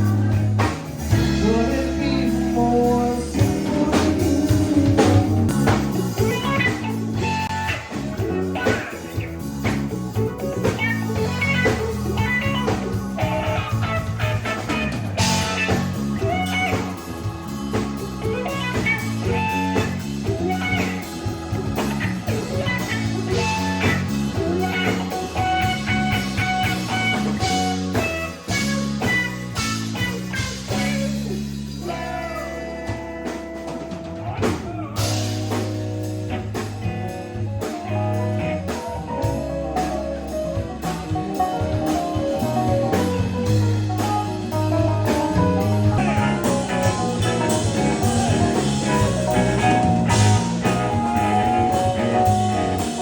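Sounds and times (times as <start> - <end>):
bass: 0.0 - 53.0
drums: 0.0 - 53.0
electric guitar: 0.0 - 53.0.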